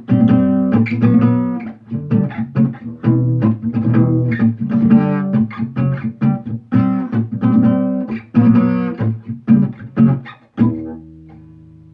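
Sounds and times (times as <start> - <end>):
guitar plucked notes: 0.0 - 11.9.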